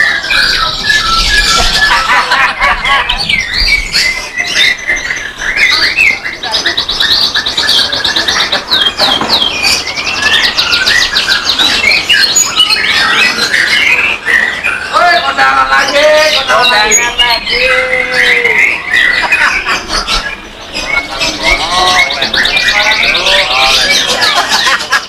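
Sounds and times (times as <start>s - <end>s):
fast bird trill: 0.0s - 25.0s
songbirds singing: 0.0s - 25.0s.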